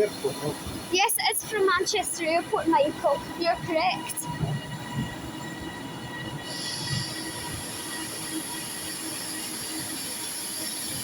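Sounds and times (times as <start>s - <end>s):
high steady squeal: 0.0s - 11.0s
train rumbling: 0.0s - 11.0s.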